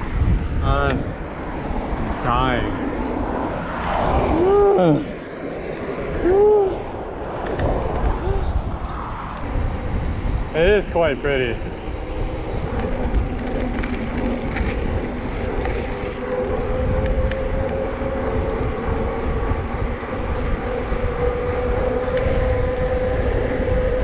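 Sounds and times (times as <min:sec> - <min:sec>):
tyres humming on road: 0:00.0 - 0:24.0
wind rumbling on microphone: 0:00.0 - 0:24.0.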